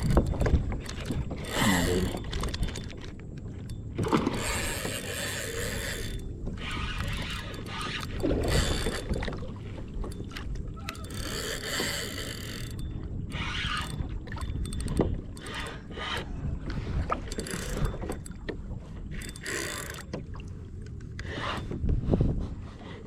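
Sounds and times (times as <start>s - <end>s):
fishing reel clicking: 0.0s - 9.4s, 10.0s - 20.2s
wind buffeting microphone: 0.0s - 23.0s.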